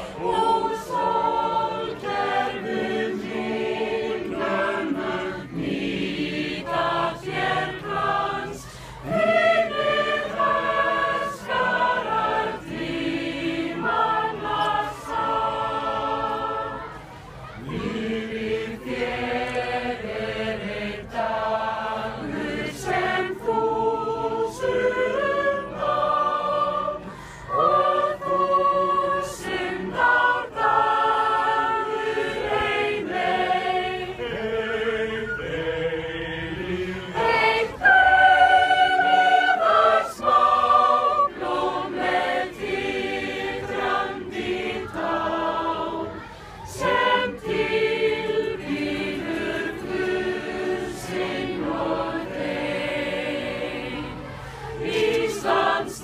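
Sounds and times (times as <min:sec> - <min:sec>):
group singing unaccompanied: 0:00.0 - 0:56.0.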